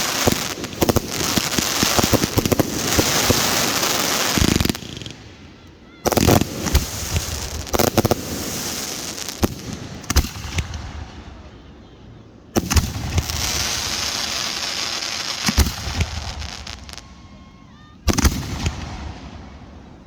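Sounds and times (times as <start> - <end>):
fireworks bangs and crackling: 0.0 - 11.6, 12.5 - 20.0.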